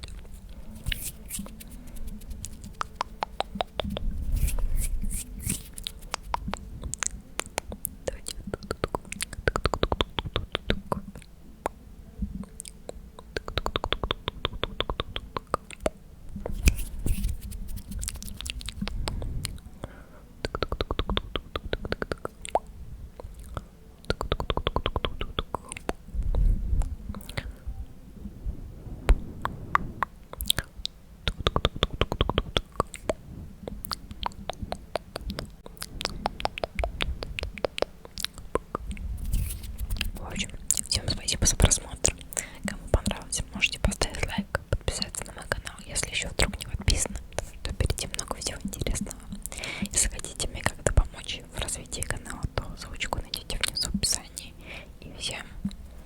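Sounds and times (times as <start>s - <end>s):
wet tongue and lip clicks: 0.0s - 11.8s, 12.4s - 19.7s, 20.4s - 27.5s, 29.4s - 54.5s.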